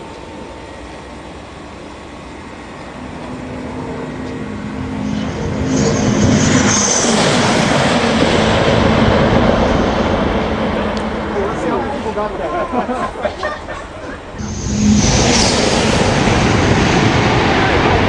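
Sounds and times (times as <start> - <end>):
faint steady whine: 0.0 - 18.0
train rushing past: 2.0 - 18.0.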